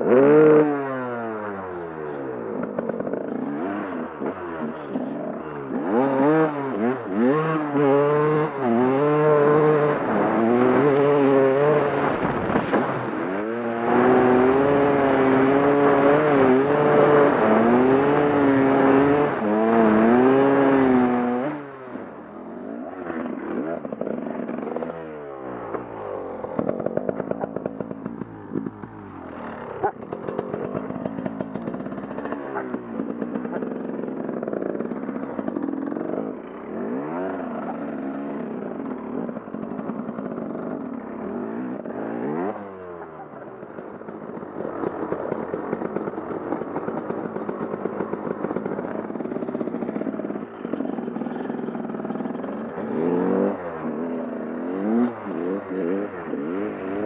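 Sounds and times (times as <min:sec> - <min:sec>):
two-stroke motorcycle revving: 0:00.0 - 0:57.0.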